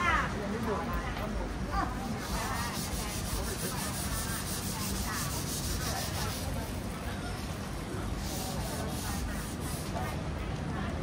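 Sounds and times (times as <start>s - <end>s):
indistinct chatter of passers-by: 0.0s - 11.0s.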